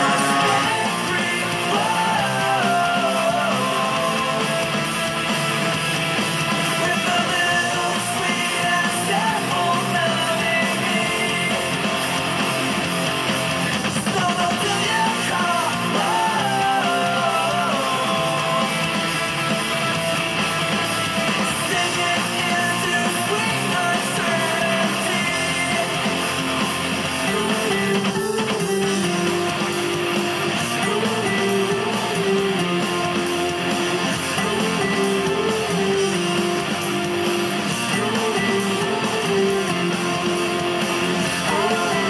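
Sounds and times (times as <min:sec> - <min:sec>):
person singing: 0:00.0 - 0:04.8, 0:06.7 - 0:12.3, 0:13.9 - 0:19.1, 0:21.5 - 0:42.0
rock music with strummed guitars: 0:00.0 - 0:42.0.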